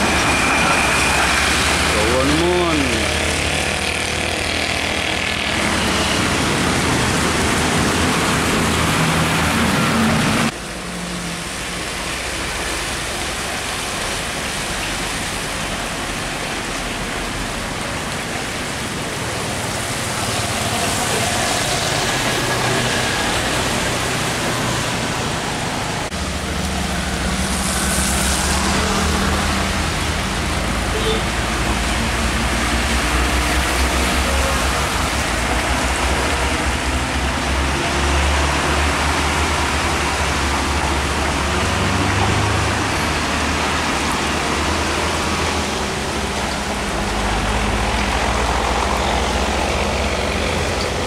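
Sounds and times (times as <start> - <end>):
diesel truck engines: 0.0 - 51.0
rain: 0.0 - 51.0.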